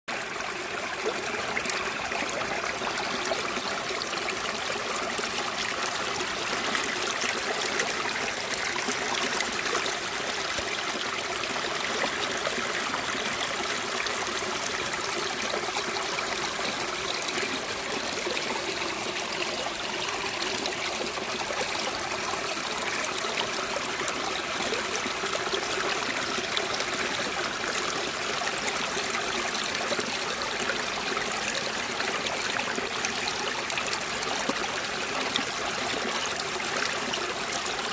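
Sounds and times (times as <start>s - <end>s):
running water: 0.1s - 37.9s.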